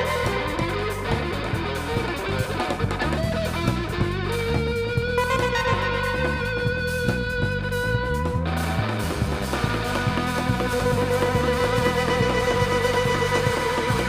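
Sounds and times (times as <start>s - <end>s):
bass line: 0.0s - 14.0s
electric guitar: 0.0s - 14.0s
rock band playing live: 0.0s - 14.0s.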